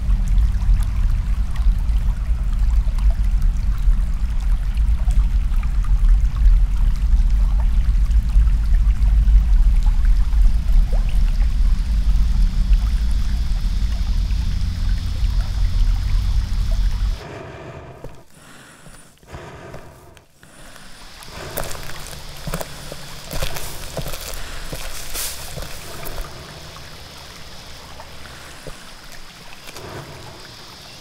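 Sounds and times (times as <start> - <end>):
water drips: 0.0 - 17.2, 20.1 - 31.0
water rushing through metal culvert: 0.0 - 17.2, 21.0 - 31.0
heavy low rumble: 0.0 - 18.3, 21.0 - 28.6.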